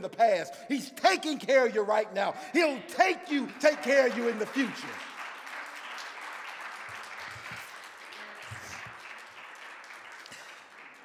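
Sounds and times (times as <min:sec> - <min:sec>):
congregation applauding: 0:01.0 - 0:11.0.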